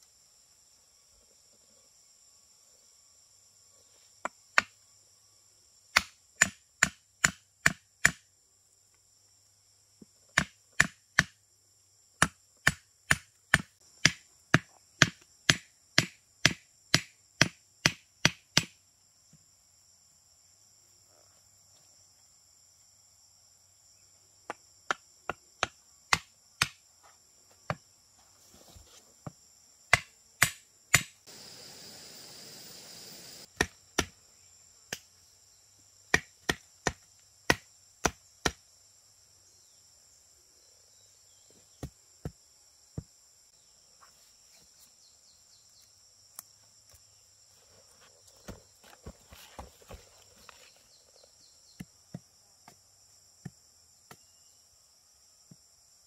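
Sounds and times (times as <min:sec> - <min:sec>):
high insect drone: 0:00.0 - 0:10.1, 0:13.6 - 0:56.0.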